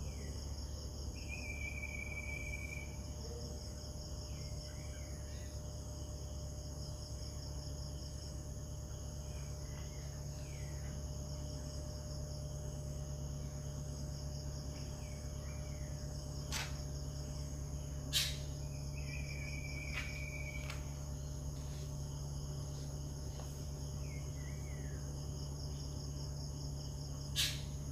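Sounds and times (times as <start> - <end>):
insects chirping: 0.0 - 27.9
low steady hum: 0.0 - 27.9.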